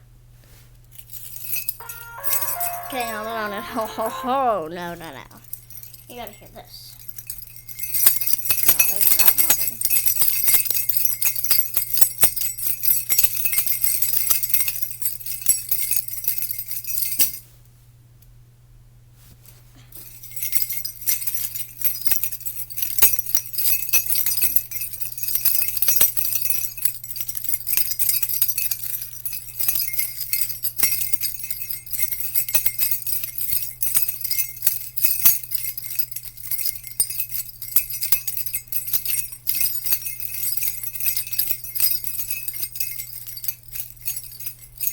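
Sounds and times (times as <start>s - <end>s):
jingle bells shaking: 1.0s - 17.4s, 20.0s - 44.9s.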